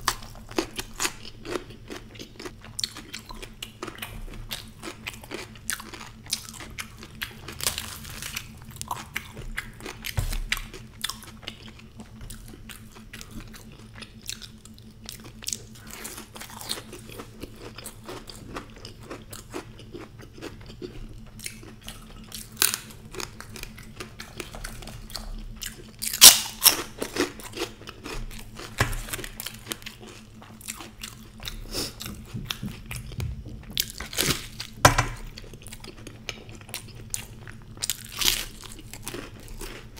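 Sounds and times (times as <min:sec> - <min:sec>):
chewing and crunching fried food: 0:00.0 - 0:39.9.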